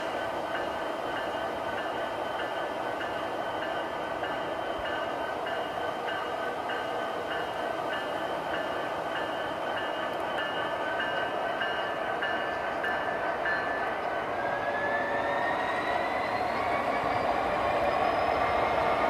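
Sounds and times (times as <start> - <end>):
model train hum: 0.0 - 19.0
regular track clicks: 0.0 - 19.0.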